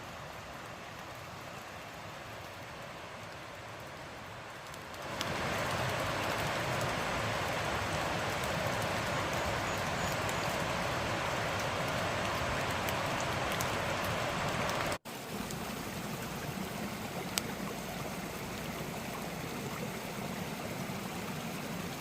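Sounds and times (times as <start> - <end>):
creek flowing: 0.0 - 22.0
rain falling: 0.0 - 22.0.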